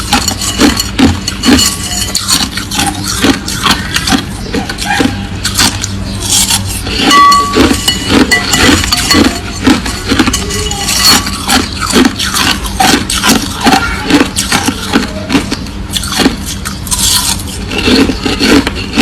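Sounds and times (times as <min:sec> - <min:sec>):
crushed ice being chewed: 0:00.0 - 0:19.0.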